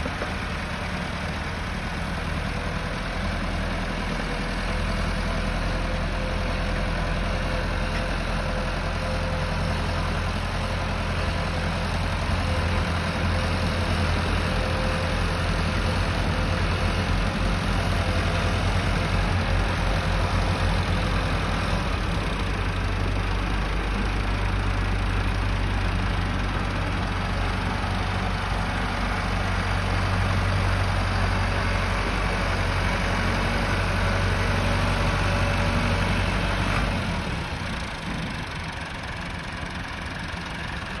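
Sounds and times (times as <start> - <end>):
tractor diesel engine throbbing: 0.0 - 41.0.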